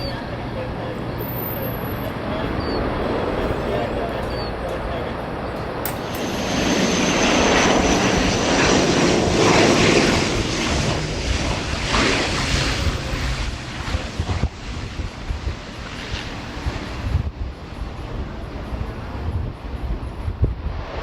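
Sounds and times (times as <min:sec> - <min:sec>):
airplane engines passing by: 0:00.0 - 0:21.0.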